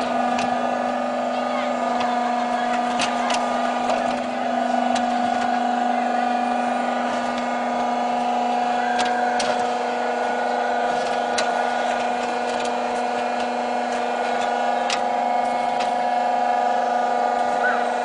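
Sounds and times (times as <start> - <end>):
toy excavator motor whine: 0.0 - 18.0.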